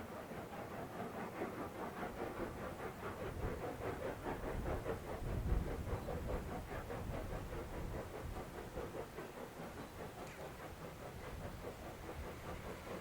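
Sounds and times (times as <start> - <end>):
steam locomotive beats: 0.0 - 13.0.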